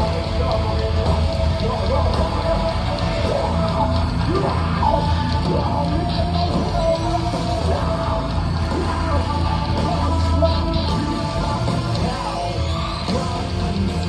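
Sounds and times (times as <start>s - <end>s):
bass: 0.0s - 14.0s
distorted guitars: 0.0s - 14.0s
drums: 0.0s - 14.0s
person singing or shouting: 0.0s - 14.0s.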